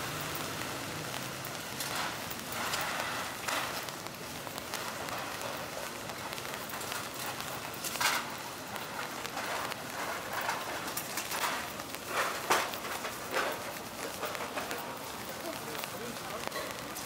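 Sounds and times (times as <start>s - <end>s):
rain falling on street: 0.0s - 17.0s.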